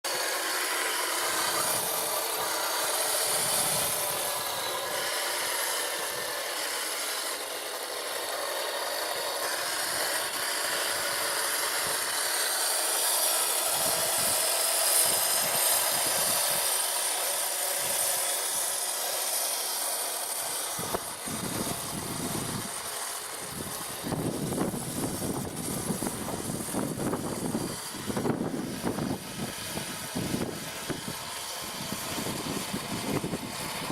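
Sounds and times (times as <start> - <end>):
toy tank motors and tracks whirring: 0.0 - 33.9.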